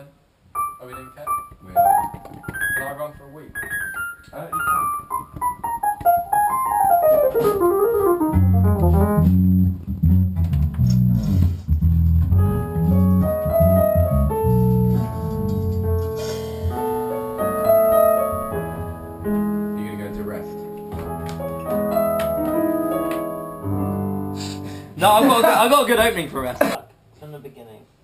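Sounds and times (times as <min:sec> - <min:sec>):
electronic keyboard piano: 0:00.5 - 0:10.2, 0:12.1 - 0:26.1.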